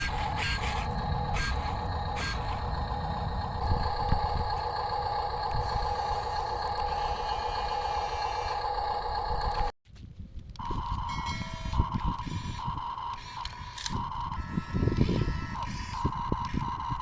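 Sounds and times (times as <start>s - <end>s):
small electric motors whining: 0.0s - 9.7s, 10.6s - 17.0s.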